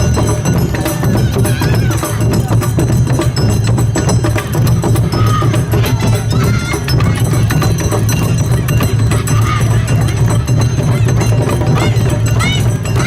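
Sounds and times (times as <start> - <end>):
clacking percussion: 0.0 - 13.0
taiko drums: 0.0 - 13.0.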